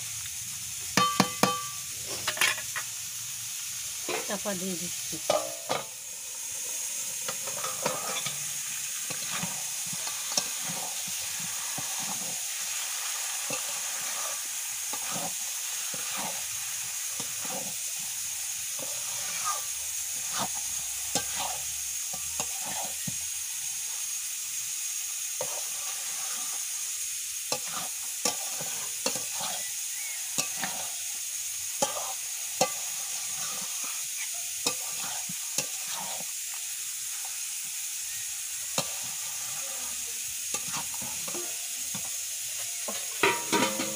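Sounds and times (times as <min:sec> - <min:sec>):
meat sizzling in oil: 0:00.0 - 0:43.9
metal spatula scraping a pan: 0:01.0 - 0:02.9, 0:04.0 - 0:24.2, 0:25.2 - 0:43.9.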